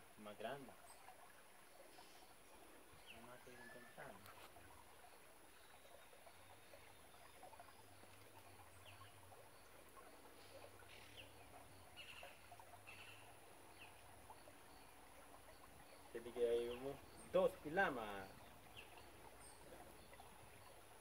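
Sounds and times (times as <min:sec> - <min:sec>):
faint bird chirps: 0:01.8 - 0:04.4, 0:05.0 - 0:21.0.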